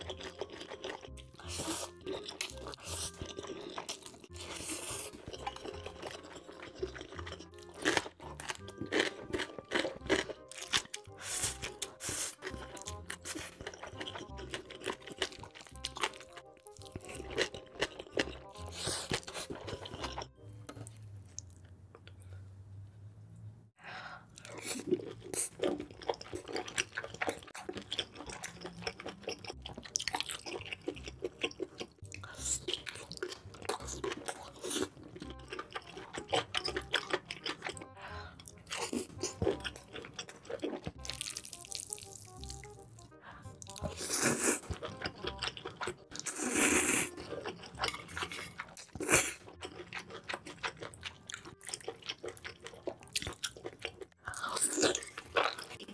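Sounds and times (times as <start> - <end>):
background music: 0.0 - 21.8, 24.4 - 55.9
wet chewing: 0.0 - 22.3, 24.3 - 55.9.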